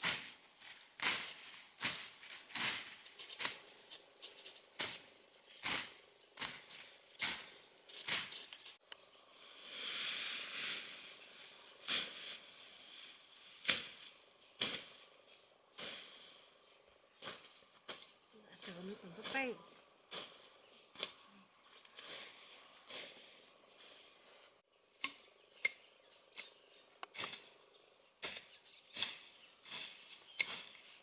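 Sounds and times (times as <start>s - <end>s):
machete swishing through undergrowth: 0.0s - 8.8s, 9.4s - 16.5s, 17.2s - 24.6s, 28.2s - 31.0s
leaves rustling: 0.0s - 24.6s, 26.1s - 31.0s.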